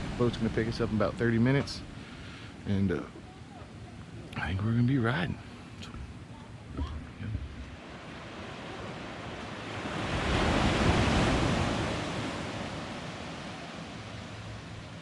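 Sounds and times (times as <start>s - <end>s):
small waves breaking on beach: 0.0s - 4.2s, 6.6s - 15.0s.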